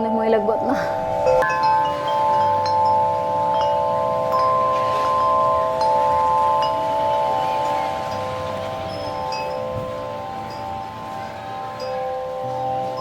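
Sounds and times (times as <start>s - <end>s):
wind chime ringing: 0.0s - 13.0s
wind on microphone: 0.0s - 13.0s.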